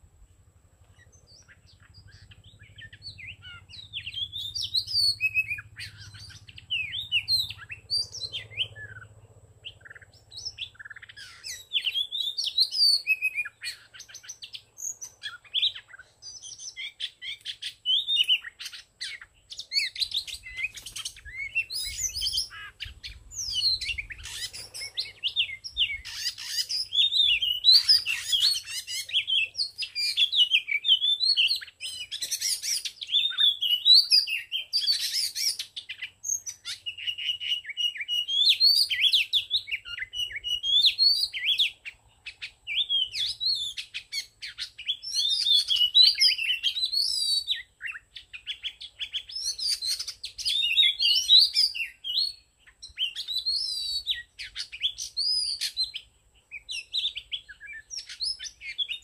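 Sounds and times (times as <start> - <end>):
bird whistles and chirps: 0.9 - 59.0.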